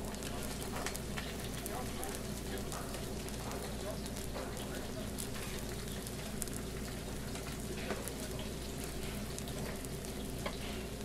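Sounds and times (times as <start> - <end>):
food sizzling: 0.0 - 11.0.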